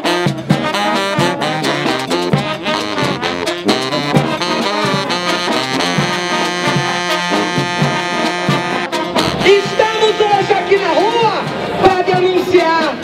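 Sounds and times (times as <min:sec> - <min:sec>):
drum strikes: 0:00.0 - 0:12.2
horns playing melody: 0:00.0 - 0:13.0.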